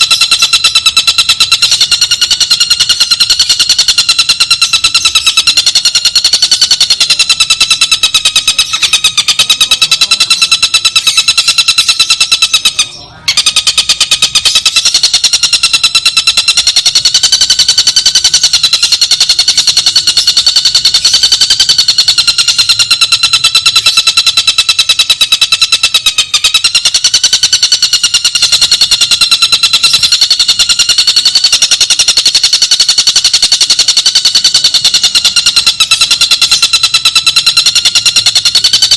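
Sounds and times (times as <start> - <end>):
bird rattling trill: 0.0 - 38.9.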